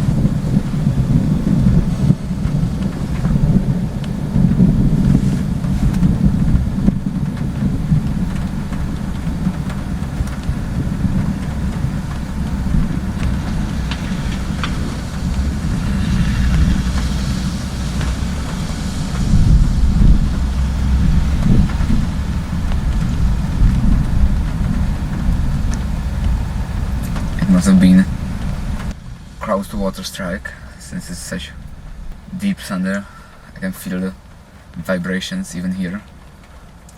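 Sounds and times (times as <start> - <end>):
wind on microphone: 0.0 - 34.8
thunder rumbling: 0.0 - 35.3.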